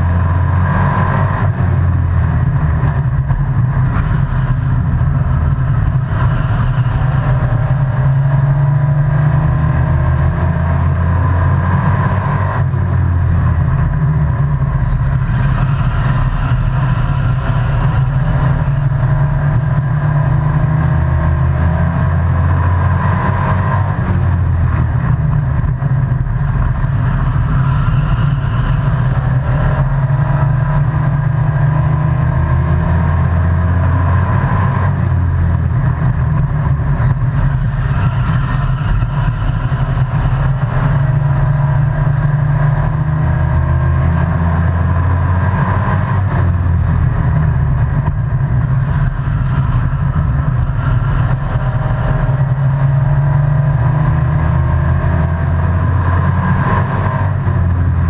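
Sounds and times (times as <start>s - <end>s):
truck engine running hard: 0.0s - 58.0s.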